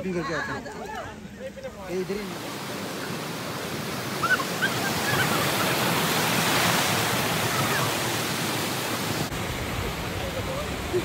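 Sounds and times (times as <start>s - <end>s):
water rushing over weir: 0.5s - 11.0s.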